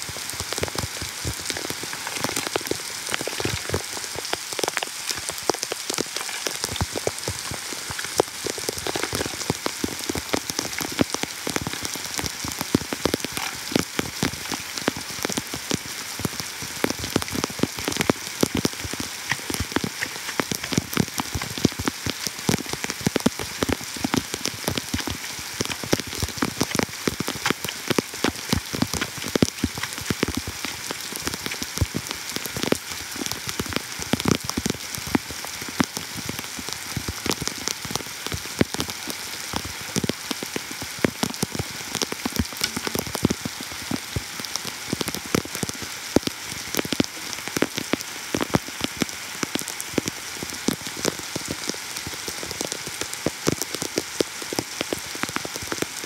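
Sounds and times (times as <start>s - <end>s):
heavy rain on puddles: 0.0s - 56.0s.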